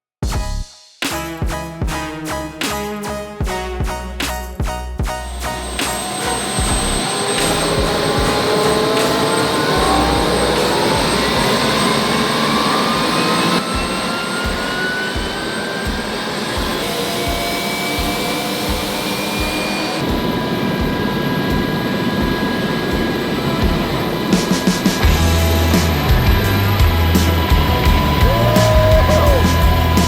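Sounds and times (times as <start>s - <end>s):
main rotor beating: 5.1s - 30.0s
helicopter turbine engines whining: 5.3s - 30.0s.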